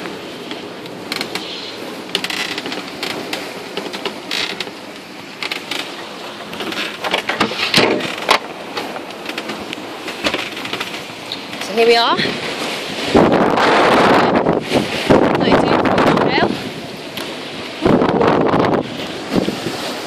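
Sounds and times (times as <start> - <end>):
boat woodwork creaking and knocking: 0.0 - 20.0
steady rushing noise: 0.0 - 20.0.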